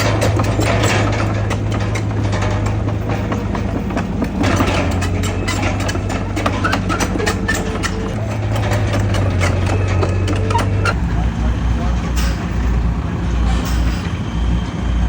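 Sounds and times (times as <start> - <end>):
small metallic clanks and rattles: 0.0 - 11.0, 11.9 - 12.8, 13.4 - 14.2
heavy diesel engine running: 0.0 - 15.0.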